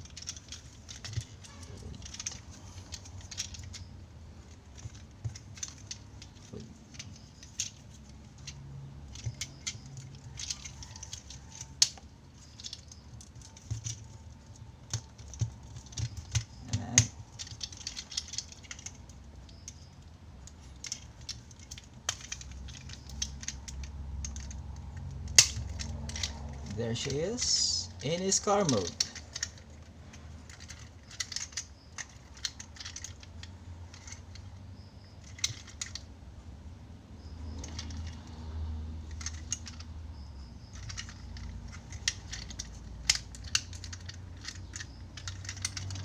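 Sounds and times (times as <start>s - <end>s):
plastic toy parts clicking: 0.0s - 36.2s, 37.4s - 46.0s.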